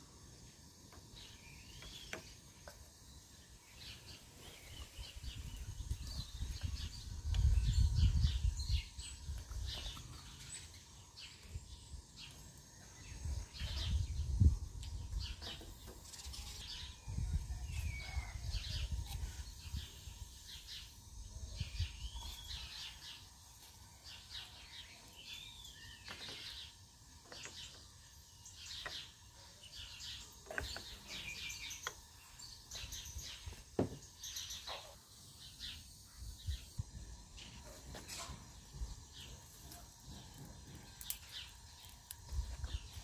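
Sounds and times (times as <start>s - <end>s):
songbirds chirping and singing: 0.0s - 43.0s.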